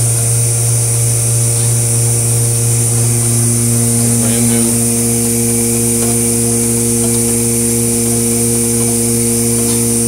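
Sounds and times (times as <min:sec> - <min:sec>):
machine electric buzz and hum: 0:00.0 - 0:10.0.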